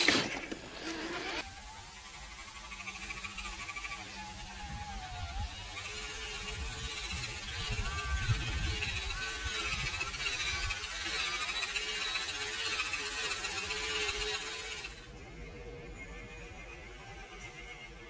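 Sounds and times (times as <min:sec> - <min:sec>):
rc truck electric motor whining: 0:00.0 - 0:18.0.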